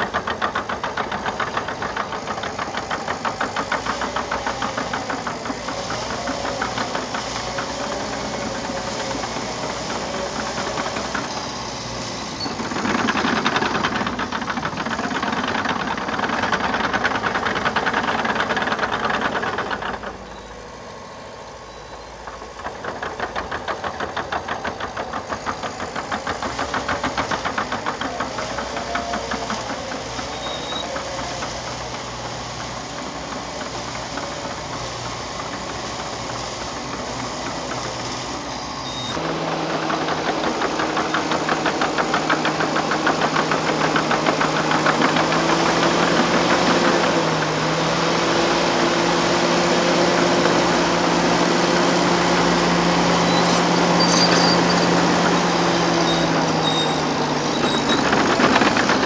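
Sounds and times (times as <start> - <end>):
dozer diesel engine clattering: 0.0 - 59.0.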